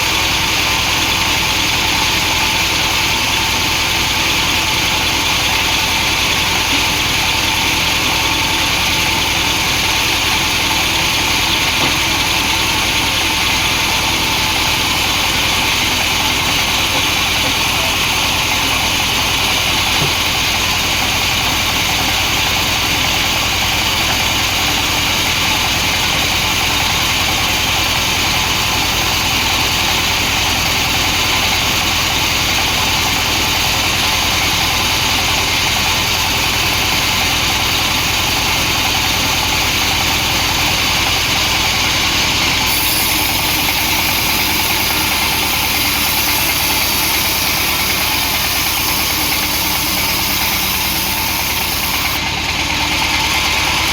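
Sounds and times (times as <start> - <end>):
engine-driven saw running: 0.0 - 53.9.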